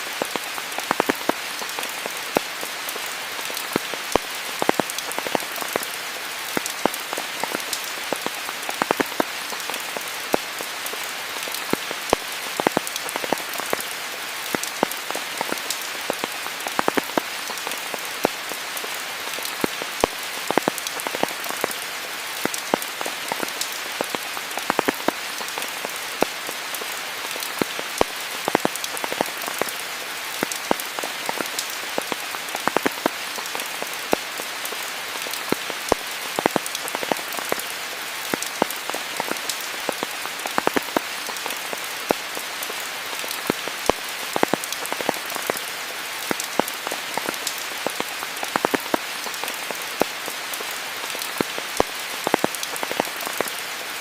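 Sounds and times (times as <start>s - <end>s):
rain hissing: 0.0s - 54.0s
raindrops ticking: 0.1s - 53.7s.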